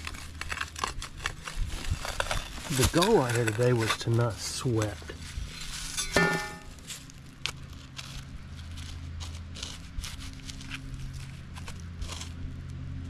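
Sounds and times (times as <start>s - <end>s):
digging in dirt and leaves: 0.0s - 13.0s.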